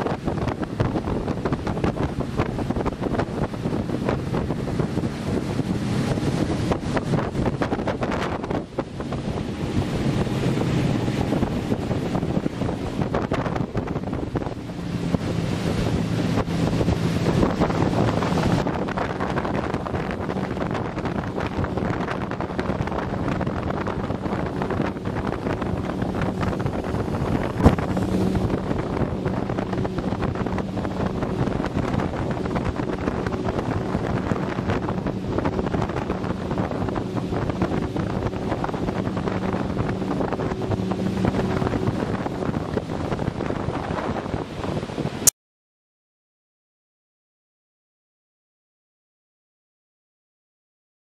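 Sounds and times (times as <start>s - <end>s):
boat engine humming: 0.0s - 45.3s
wind buffeting microphone: 0.0s - 45.3s.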